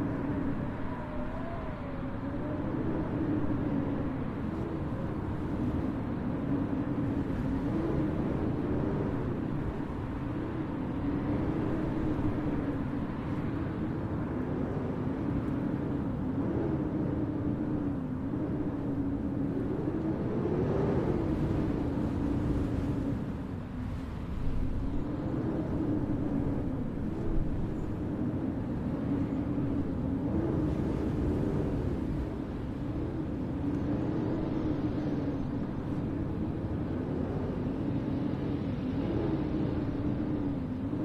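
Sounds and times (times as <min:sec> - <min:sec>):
blizzard wind howling: 0:00.0 - 0:41.0.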